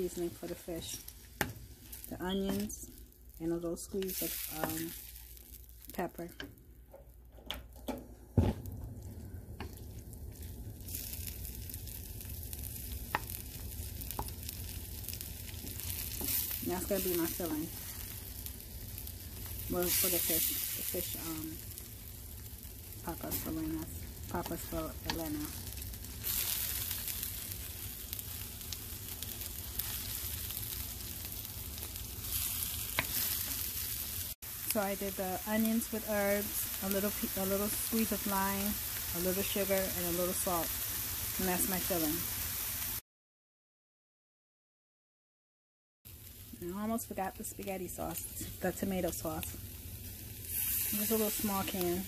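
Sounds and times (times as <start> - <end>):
food sizzling in a metal pan: 0.0 - 6.6, 8.4 - 43.0, 46.1 - 52.0.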